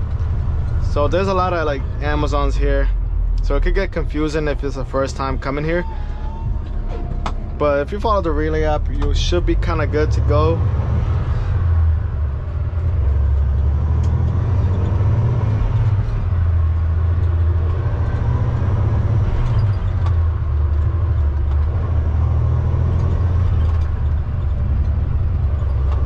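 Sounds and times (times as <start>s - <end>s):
diesel truck engine droning: 0.0s - 26.0s.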